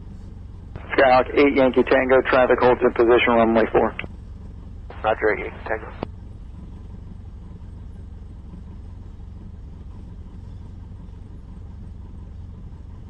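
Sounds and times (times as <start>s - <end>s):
aircraft piston engine idling: 0.0s - 13.0s.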